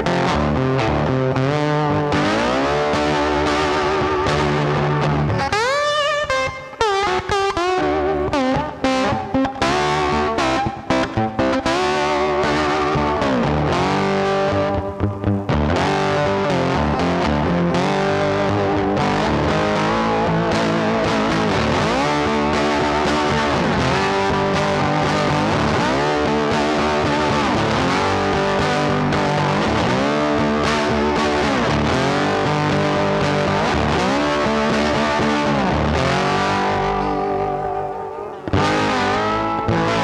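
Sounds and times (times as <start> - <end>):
guitar background music: 0.0 - 40.0.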